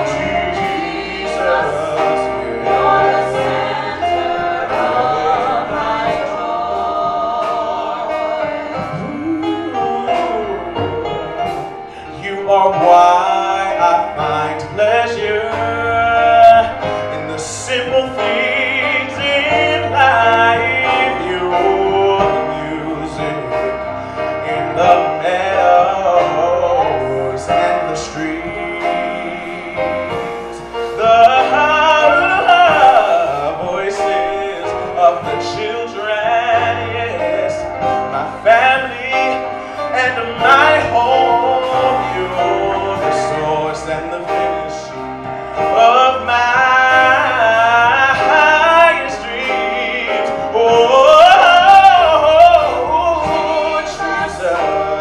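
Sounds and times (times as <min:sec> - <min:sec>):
keyboard accompaniment: 0:00.0 - 0:55.0
man singing gospel: 0:00.0 - 0:55.0.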